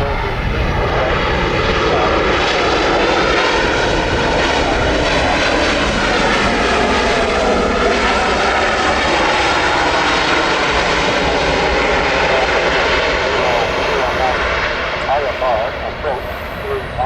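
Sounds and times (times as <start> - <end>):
airliner engines roaring: 0.0 - 17.0
high engine whine: 0.0 - 17.0.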